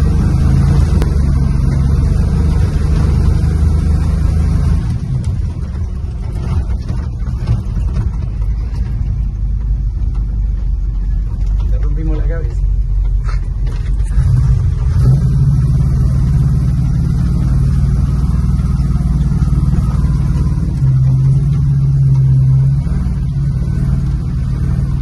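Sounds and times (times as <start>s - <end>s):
truck engine from inside cab: 0.0s - 25.0s.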